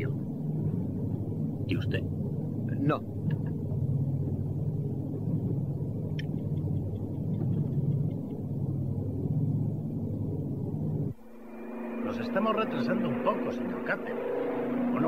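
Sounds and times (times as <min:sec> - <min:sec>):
twin-engine aircraft droning: 0:00.0 - 0:15.0.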